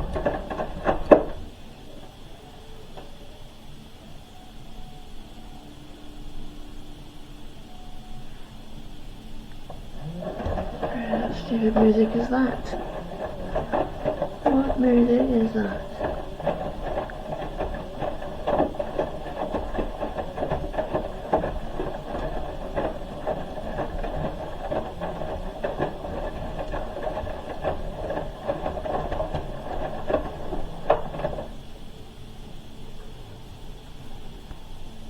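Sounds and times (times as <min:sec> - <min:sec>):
washing machine drum tumbling: 0:00.0 - 0:04.0, 0:08.3 - 0:32.8.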